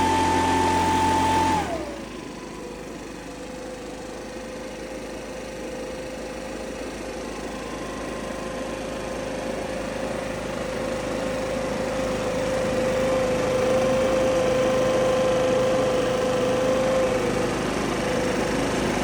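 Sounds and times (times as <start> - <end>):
leaf blower running: 0.0 - 19.0.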